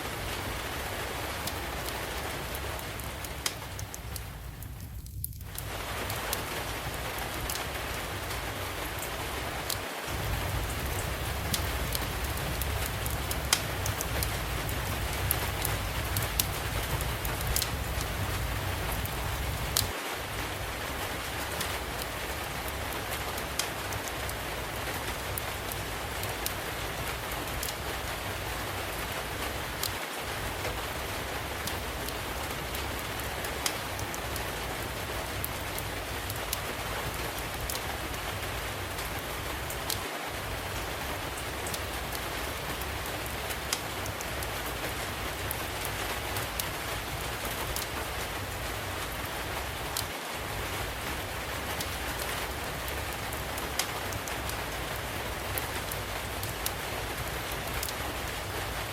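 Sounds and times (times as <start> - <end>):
steady rainfall: 0.0 - 58.9
wood fire crackling: 0.0 - 58.9.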